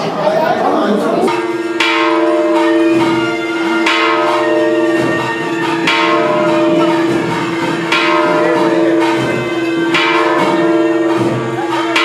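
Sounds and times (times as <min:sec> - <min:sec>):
temple bell ringing: 0:01.0 - 0:12.0.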